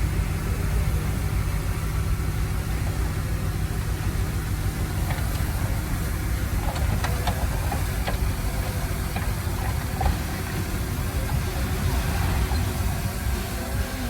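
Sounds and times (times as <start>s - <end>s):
heavy machinery engine rumbling: 0.0s - 14.0s.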